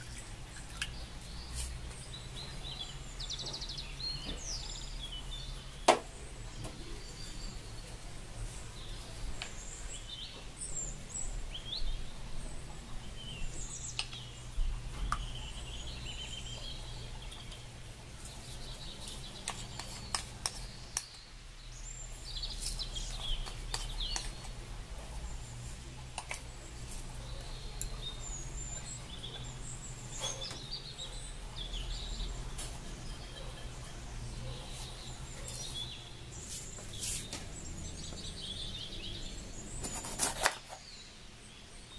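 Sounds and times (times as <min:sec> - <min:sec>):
low steady hum: 0:00.0 - 0:40.2
small birds chirping: 0:00.0 - 0:41.9.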